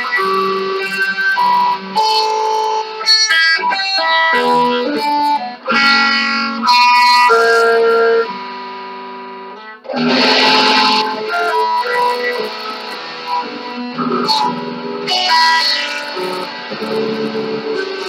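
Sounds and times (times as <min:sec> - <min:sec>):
guitar through effects: 0:00.0 - 0:18.0.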